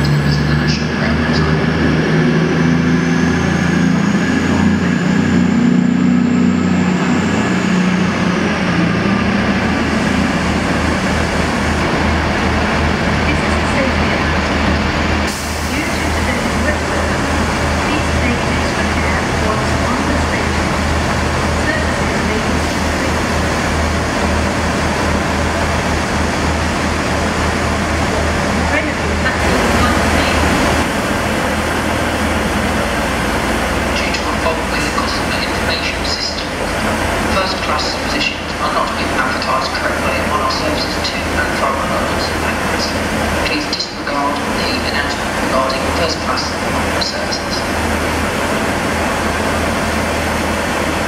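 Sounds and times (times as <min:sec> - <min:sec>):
diesel train engines droning: 0:00.0 - 0:51.0.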